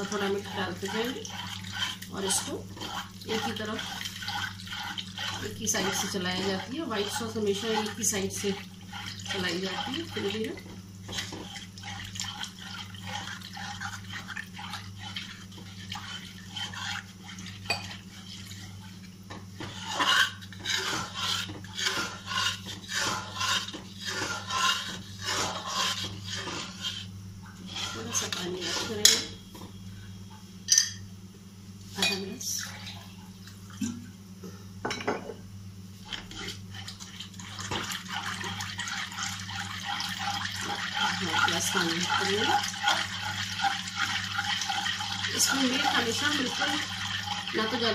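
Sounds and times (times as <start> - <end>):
spoon stirring and scraping in a pan: 0.0 - 29.8, 31.9 - 33.0, 36.0 - 47.9
steady low hum: 0.0 - 47.9.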